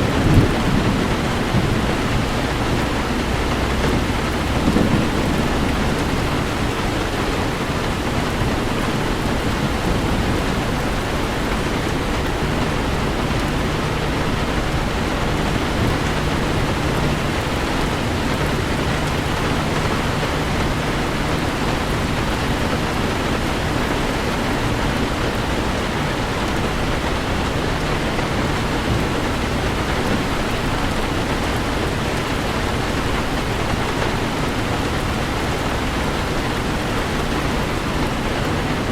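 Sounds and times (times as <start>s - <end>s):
heavy rain on a car: 0.0s - 38.9s.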